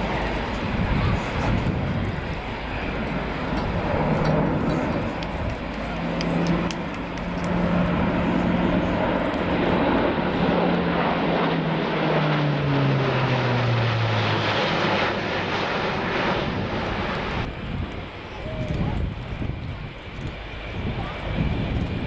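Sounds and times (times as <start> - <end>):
turboprop aircraft flying by: 0.0 - 22.0.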